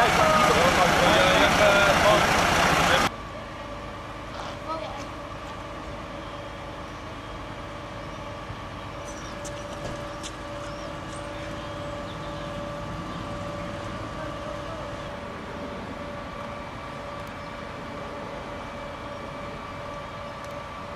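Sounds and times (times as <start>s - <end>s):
engine drone: 0.0s - 20.9s.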